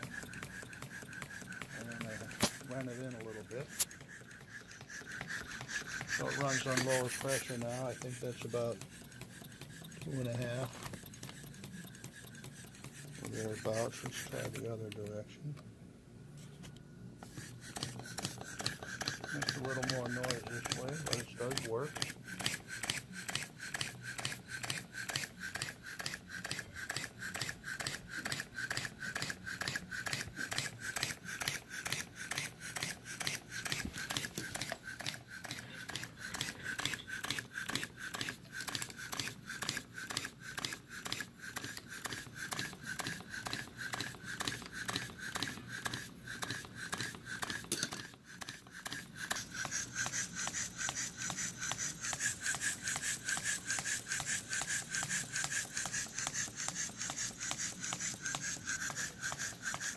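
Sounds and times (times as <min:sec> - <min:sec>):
model steam engine beats: 0:00.0 - 0:14.6, 0:17.2 - 0:59.9.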